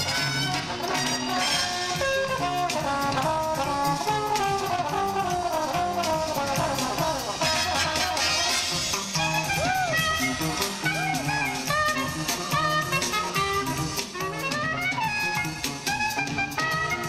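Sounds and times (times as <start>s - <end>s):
jazz music with brass section: 0.0s - 17.0s.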